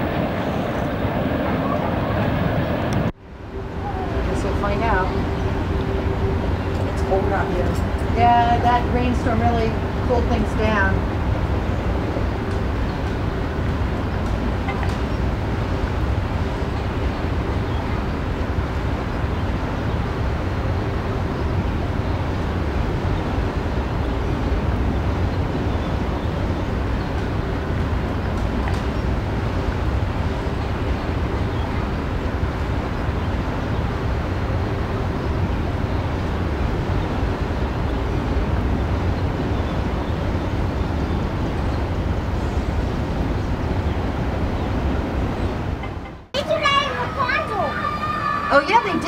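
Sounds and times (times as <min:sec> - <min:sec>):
low outdoor rumble and hiss: 0:00.0 - 0:49.0.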